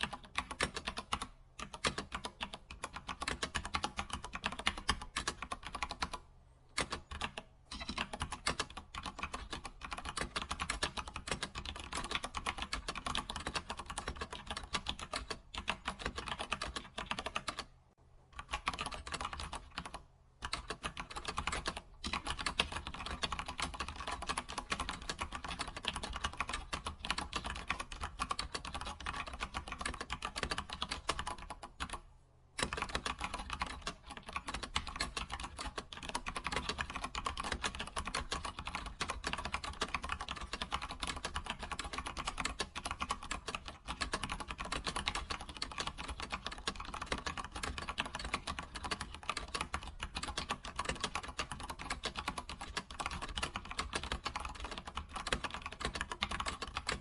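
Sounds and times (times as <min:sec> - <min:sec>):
typing on computer keyboard: 0:00.0 - 0:17.7, 0:18.4 - 0:32.0, 0:32.6 - 0:57.0.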